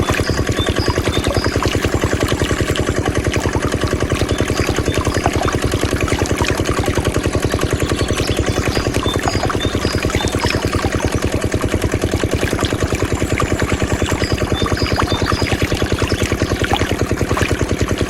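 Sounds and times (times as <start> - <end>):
small diesel engine running: 0.0 - 18.0.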